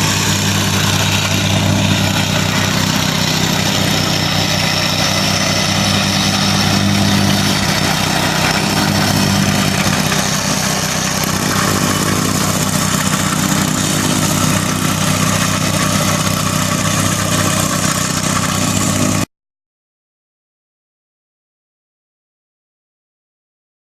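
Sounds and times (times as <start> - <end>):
engine idling: 0.0 - 19.3.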